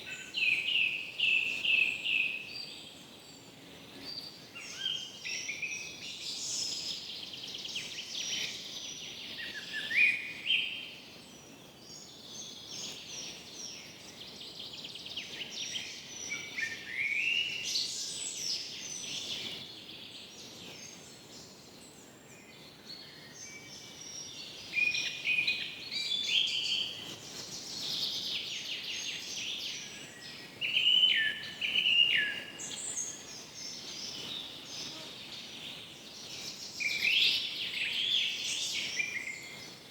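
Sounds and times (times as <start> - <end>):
faint steady background hiss: 0.0 - 39.9
songbirds singing: 0.0 - 39.9.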